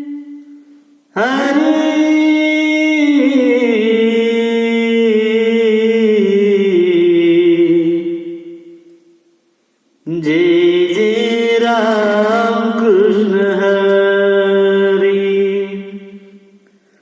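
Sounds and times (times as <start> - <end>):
man chanting unaccompanied: 1.1 - 8.8, 10.0 - 16.6.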